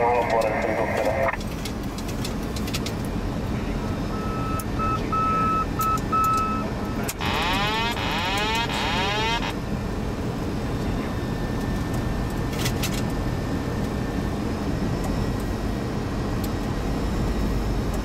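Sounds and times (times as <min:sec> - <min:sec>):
cockpit airflow and engine noise: 0:00.0 - 0:18.0.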